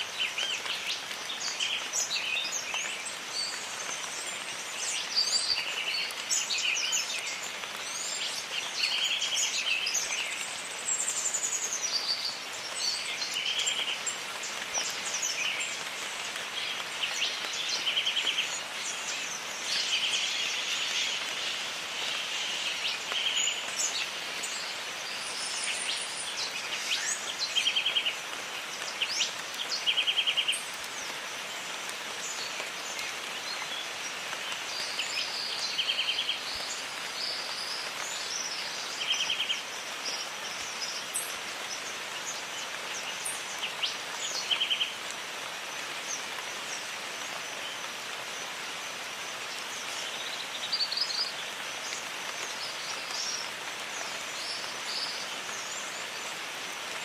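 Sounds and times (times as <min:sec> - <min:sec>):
steady rainfall hissing: 0:00.0 - 0:57.0.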